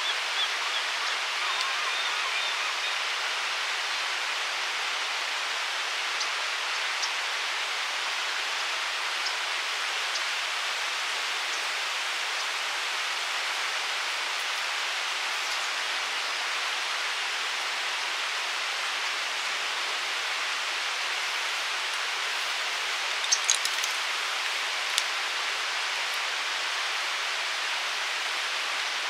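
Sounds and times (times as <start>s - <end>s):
river water flowing: 0.0s - 29.0s.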